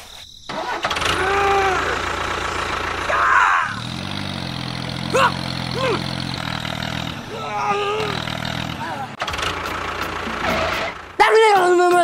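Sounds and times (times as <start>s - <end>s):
engine idling: 0.5s - 11.9s.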